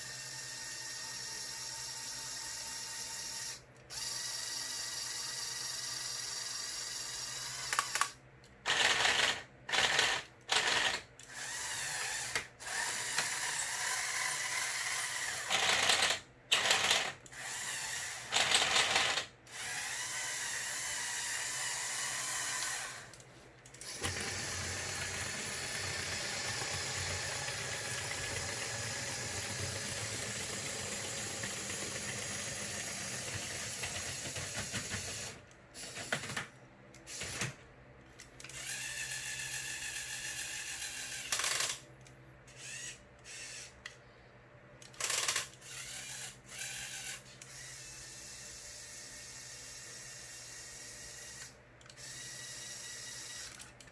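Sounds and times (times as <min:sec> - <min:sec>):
small electric motors whining: 0:00.0 - 0:23.2, 0:23.8 - 0:36.3, 0:38.4 - 0:41.8, 0:42.5 - 0:43.8, 0:45.0 - 0:53.7.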